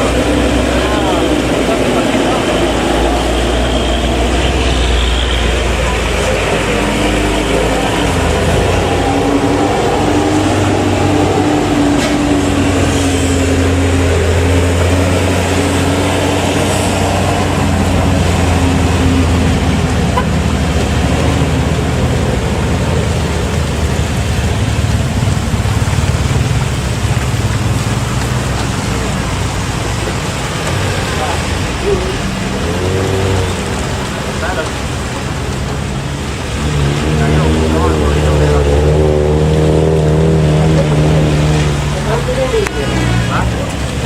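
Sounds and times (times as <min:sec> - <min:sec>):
road noise: 0:00.0 - 0:44.0
vehicle engine droning: 0:00.0 - 0:44.0.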